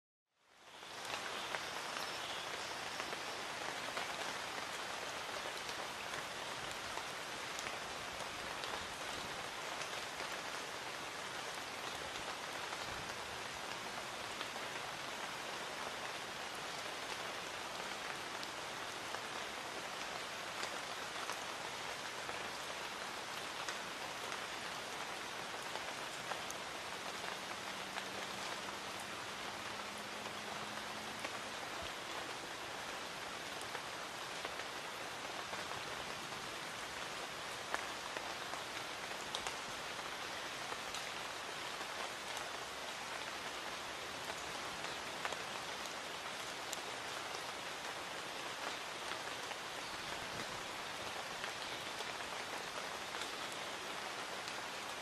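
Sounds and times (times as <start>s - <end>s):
light rain falling: 0.3s - 55.0s.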